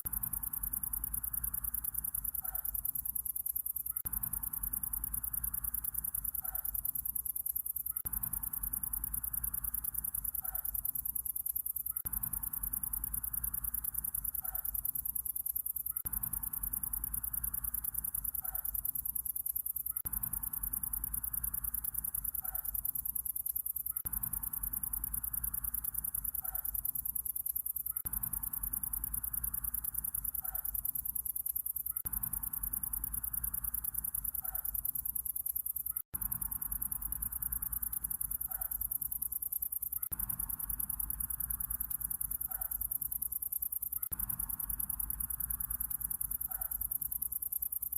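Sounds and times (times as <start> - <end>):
crickets chirping: 0.0 - 47.9
insects trilling: 0.0 - 47.9.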